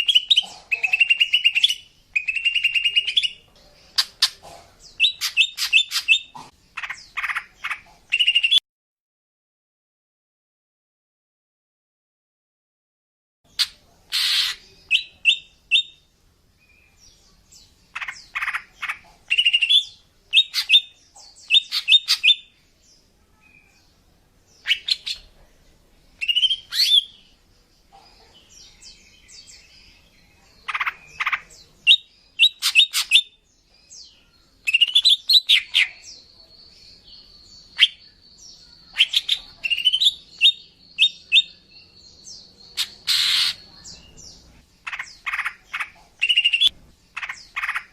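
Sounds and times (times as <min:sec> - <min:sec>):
bird chirping: 0:00.0 - 0:08.6, 0:13.5 - 0:47.9.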